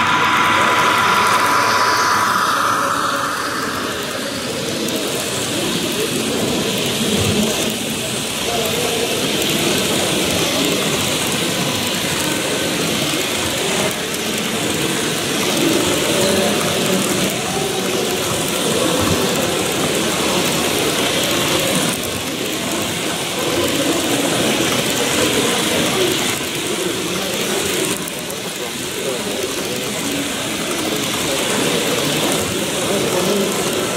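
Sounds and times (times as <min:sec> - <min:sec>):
murmur of voices: 0:00.0 - 0:33.9.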